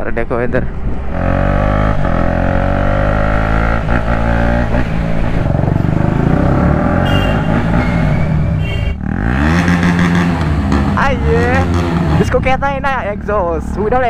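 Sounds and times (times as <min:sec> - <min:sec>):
motorcycle engine without exhaust: 0:00.7 - 0:14.0.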